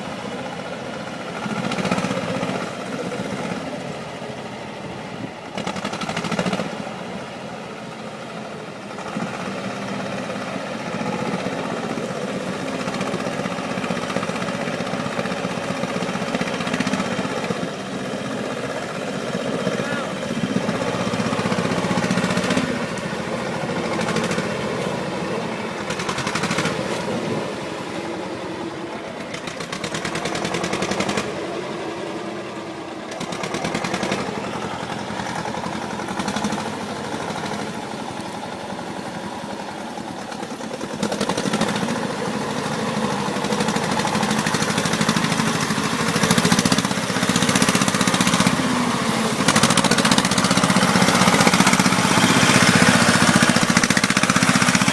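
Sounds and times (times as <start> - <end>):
rattly vehicle engine running: 0.0 - 54.9.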